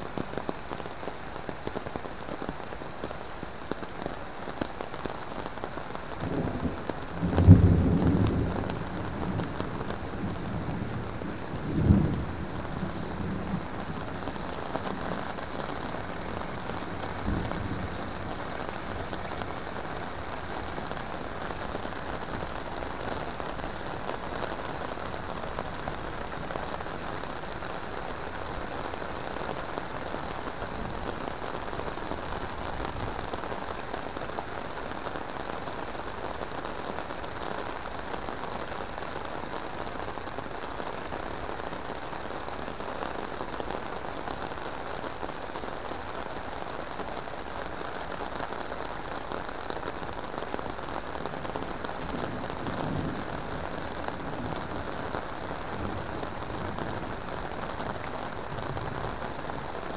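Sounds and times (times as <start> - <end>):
heavy rain on pond water: 0.0 - 59.9.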